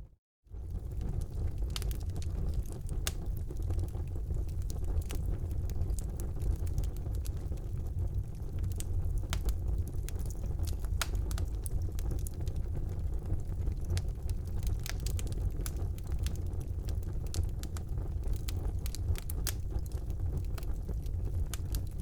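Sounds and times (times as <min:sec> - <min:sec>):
fire crackling and popping: 0:00.5 - 0:22.0
roar of fire flames: 0:00.5 - 0:22.0.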